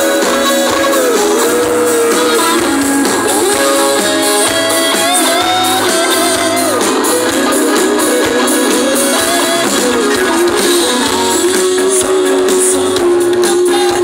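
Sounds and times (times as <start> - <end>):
bass: 0.0 - 14.0
drums and cymbals: 0.0 - 14.0
keyboard chords: 0.0 - 14.0
lead guitar melody: 0.0 - 14.0.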